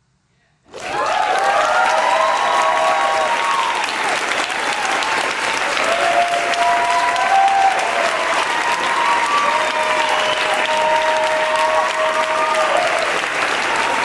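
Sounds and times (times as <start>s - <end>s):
audience applauding: 0.7s - 14.0s
people cheering: 0.7s - 14.0s.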